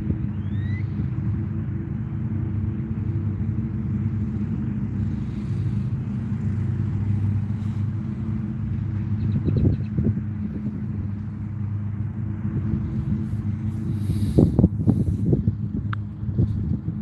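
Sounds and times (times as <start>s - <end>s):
low engine drone: 0.0s - 17.0s
road traffic hum: 0.0s - 17.0s.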